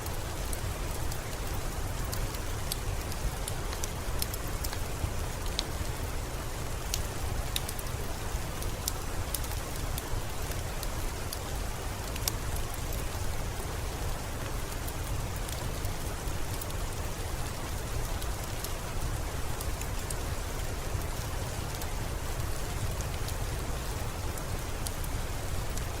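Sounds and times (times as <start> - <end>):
steady rain falling: 0.0 - 26.0
wood fire crackling: 0.0 - 26.0.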